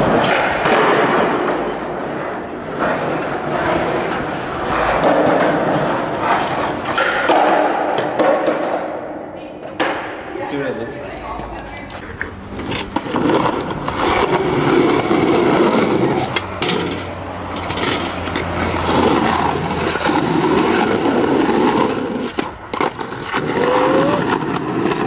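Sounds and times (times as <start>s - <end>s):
skateboard wheels rolling on asphalt: 0.0s - 9.2s, 11.4s - 25.0s
skateboard popping and landing: 0.0s - 10.2s, 12.0s - 25.0s.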